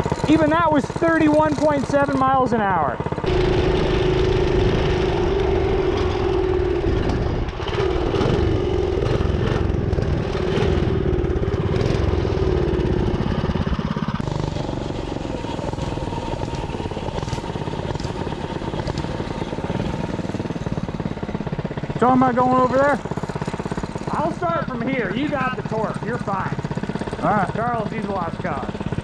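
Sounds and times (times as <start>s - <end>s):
small engine at high throttle: 0.0s - 29.0s.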